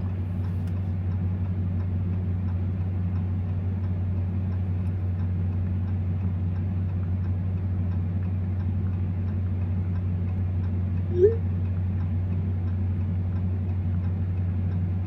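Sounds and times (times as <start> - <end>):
engine drone inside cab: 0.0 - 15.0
faint regular ticking: 0.0 - 15.0.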